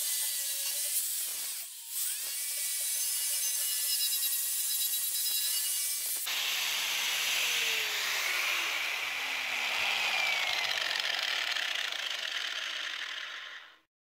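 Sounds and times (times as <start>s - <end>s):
angle grinder grinding particleboard: 0.0s - 13.9s.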